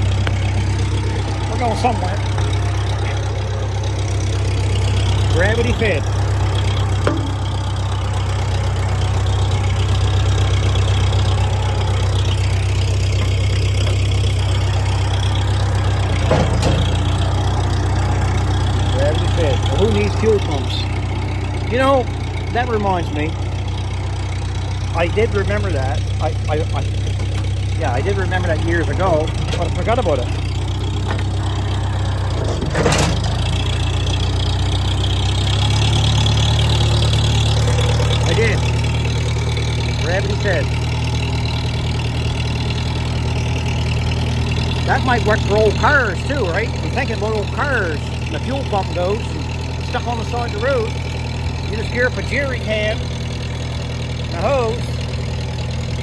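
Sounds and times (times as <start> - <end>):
engine idling with deep hum: 0.0 - 56.0
engine knock: 0.0 - 56.0.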